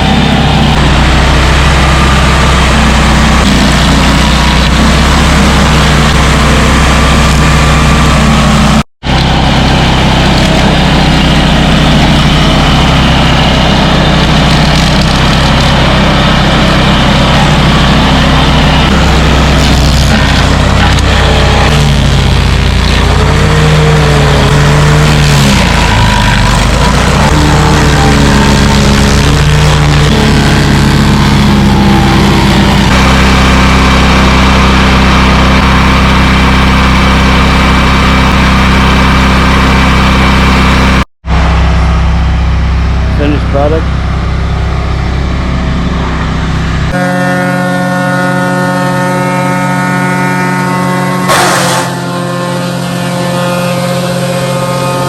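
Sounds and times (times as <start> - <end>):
wood chipper running: 0.0 - 55.0.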